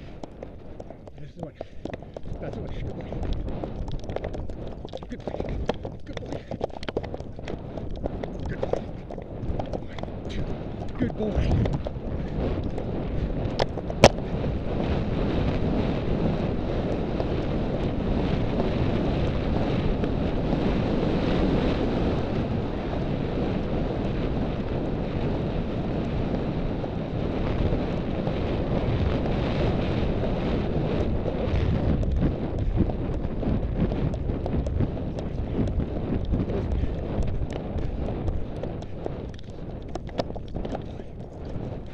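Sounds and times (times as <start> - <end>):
horse hoofbeats: 0.0 - 41.9
wind buffeting microphone: 0.0 - 41.9.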